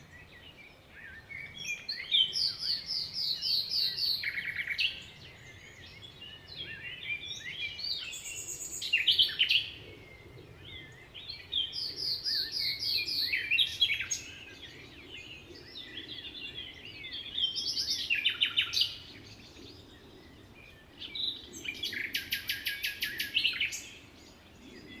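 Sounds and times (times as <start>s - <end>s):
songbirds singing and trilling: 0.0s - 25.0s.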